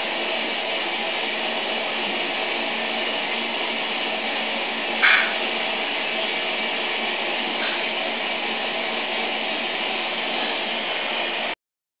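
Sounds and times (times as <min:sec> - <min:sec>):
motor hum with hiss: 0:00.0 - 0:11.6.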